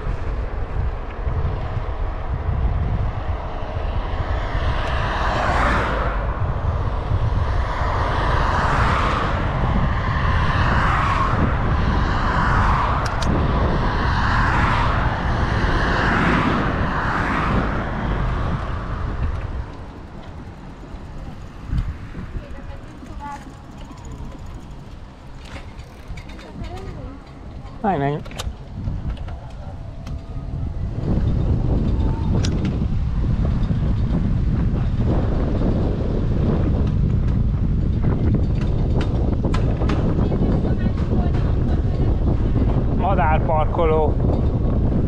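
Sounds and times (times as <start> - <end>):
cars passing: 0.0 - 45.0
wind on microphone: 0.0 - 45.0.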